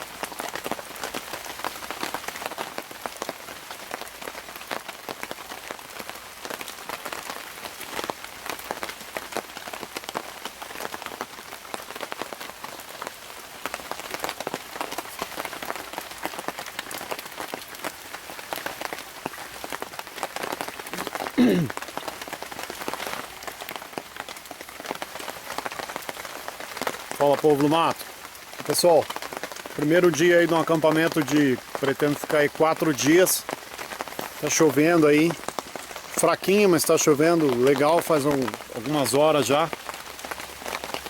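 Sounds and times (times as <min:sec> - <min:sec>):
light rain falling: 0:00.0 - 0:41.0.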